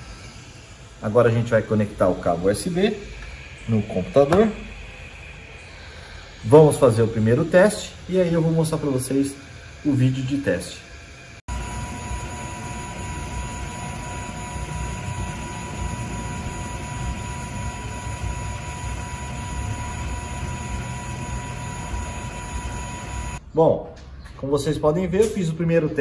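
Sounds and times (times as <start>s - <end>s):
cooling fan whoosh: 0.0s - 23.4s
high whine: 0.0s - 23.4s.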